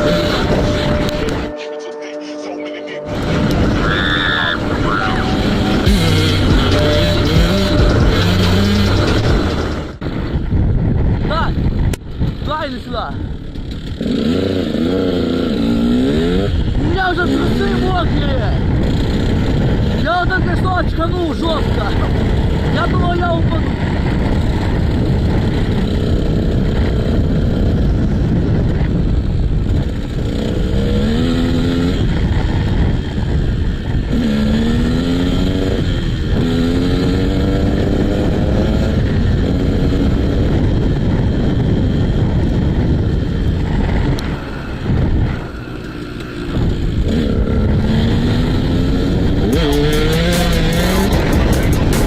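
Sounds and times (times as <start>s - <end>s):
motocross engine revving: 0.0s - 1.5s, 3.1s - 10.1s, 13.3s - 52.0s
steady rushing noise: 0.0s - 52.0s.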